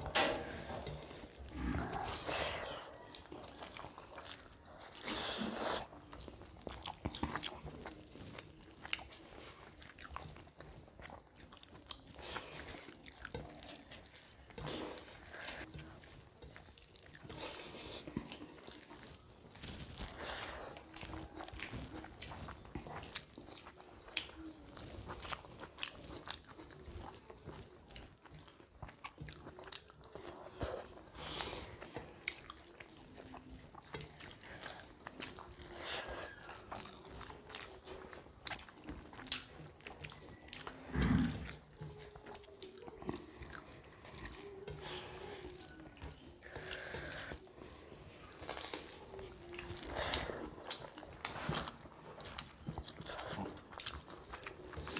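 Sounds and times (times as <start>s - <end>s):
people chewing and smacking: 0.0s - 54.9s.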